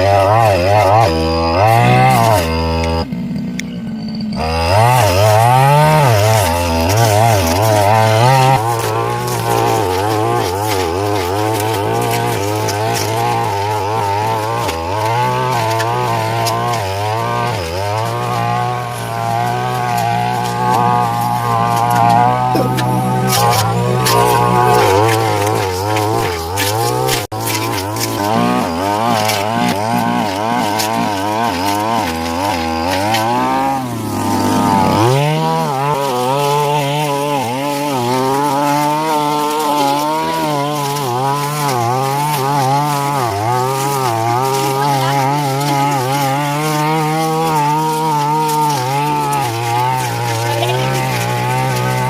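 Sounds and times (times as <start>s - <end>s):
brush cutter engine revving: 0.0s - 52.0s.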